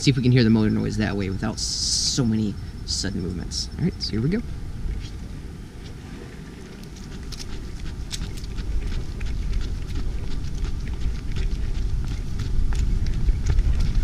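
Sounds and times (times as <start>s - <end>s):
low microphone rumble: 0.0s - 14.0s.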